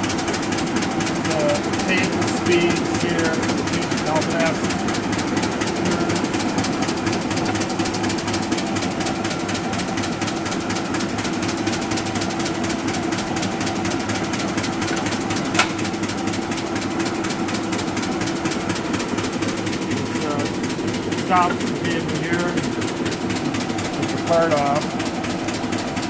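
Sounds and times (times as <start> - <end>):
drive belt clicking: 0.0 - 26.0
grinder machine hum: 0.0 - 26.0.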